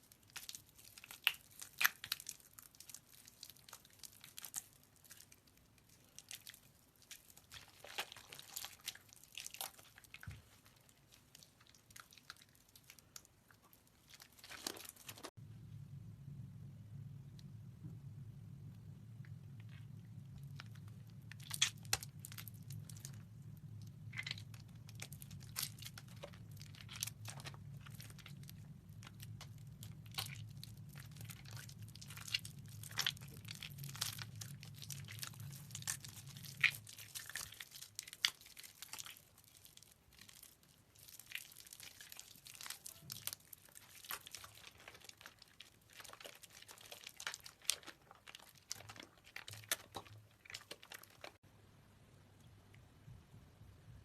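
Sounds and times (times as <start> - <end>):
wet soap crackling and crunching: 0.0 - 15.4, 17.0 - 51.4
low steady hum: 0.0 - 54.0.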